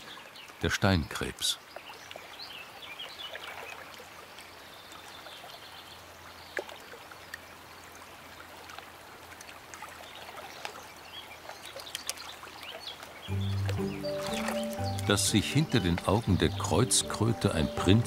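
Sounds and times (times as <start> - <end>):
water trickling over gravel: 1.7 - 18.0.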